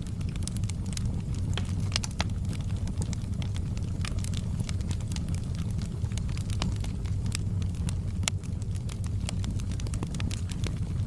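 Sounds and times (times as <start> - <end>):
fire popping and snapping: 0.0 - 11.0
low rumble of flames: 0.0 - 11.0.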